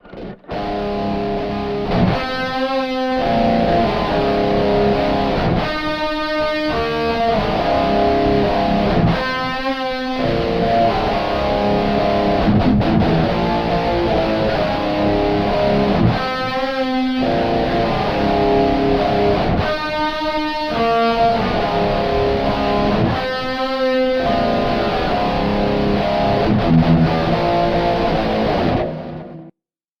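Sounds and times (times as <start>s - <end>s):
distorted electric guitar riff: 0.0s - 29.5s.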